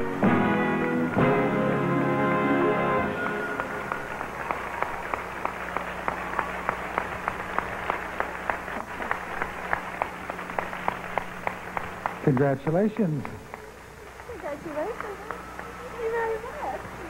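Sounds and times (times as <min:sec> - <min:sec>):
distinct evenly spaced claps: 0:00.0 - 0:17.0
audience applause: 0:02.6 - 0:17.0.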